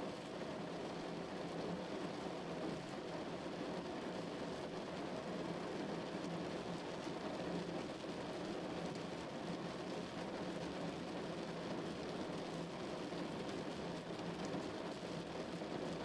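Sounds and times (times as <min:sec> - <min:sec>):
heavy rain on a car: 0:00.0 - 0:16.0.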